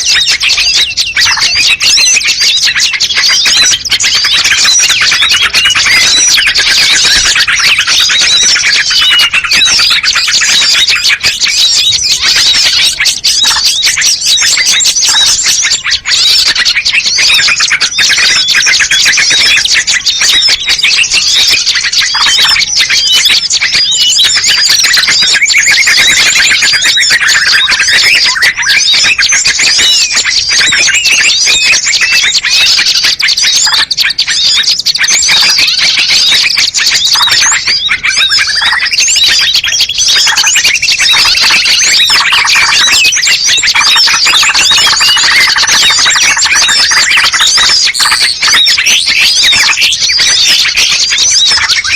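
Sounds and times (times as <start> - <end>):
songbirds chirping and trilling: 0.0 - 51.9.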